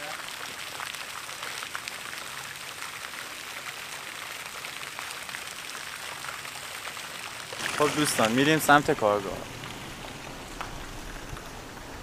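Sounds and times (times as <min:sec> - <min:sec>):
water splashing in pond: 0:00.0 - 0:12.0.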